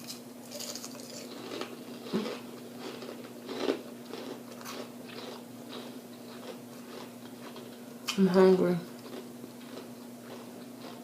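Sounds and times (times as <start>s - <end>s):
person chewing crunchy food: 0.0s - 8.2s, 8.9s - 11.0s.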